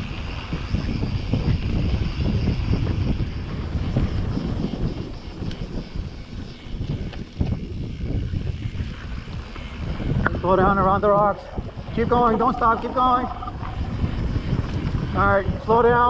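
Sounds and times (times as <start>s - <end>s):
mountain bike rolling over dirt: 0.0s - 16.0s
wind buffeting microphone: 0.0s - 16.0s.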